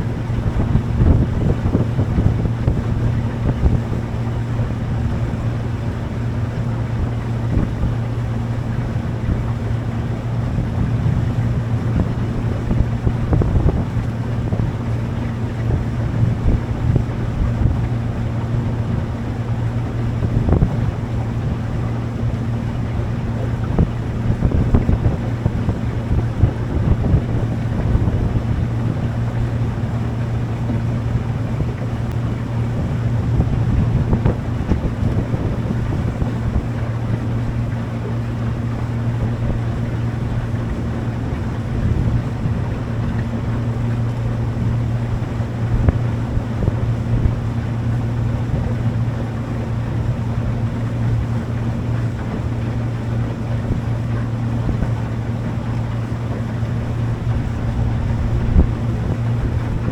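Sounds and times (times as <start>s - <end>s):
motorboat engine humming: 0.0s - 59.9s
wind buffeting microphone: 0.0s - 59.9s.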